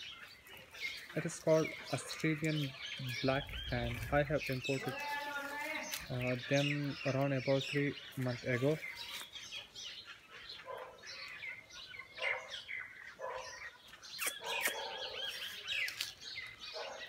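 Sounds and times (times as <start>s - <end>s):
lower bird calls: 0.0s - 17.0s
small birds chirping and singing: 0.0s - 17.0s.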